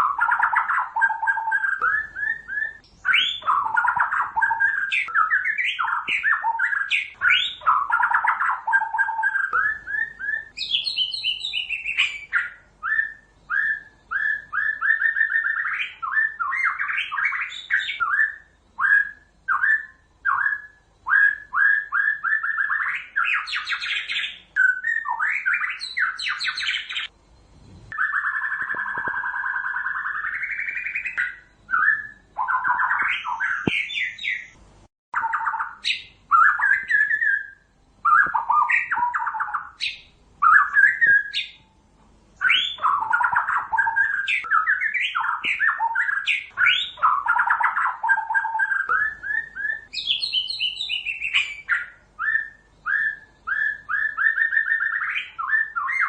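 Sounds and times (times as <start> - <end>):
songbird singing whistled notes: 0.0 - 34.6, 35.2 - 41.8, 42.4 - 56.0.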